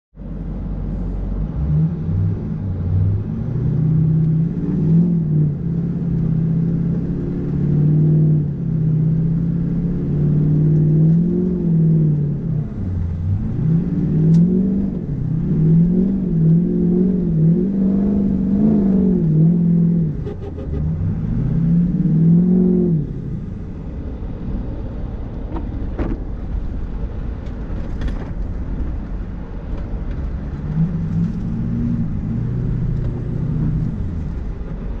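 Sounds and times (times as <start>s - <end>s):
diesel engine revving: 0.2s - 27.3s, 28.5s - 35.0s.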